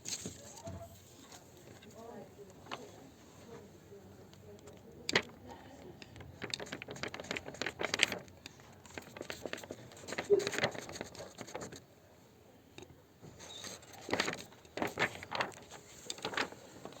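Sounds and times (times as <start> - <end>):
classroom materials rustling and clicking: 0.0 - 11.9, 12.7 - 17.0.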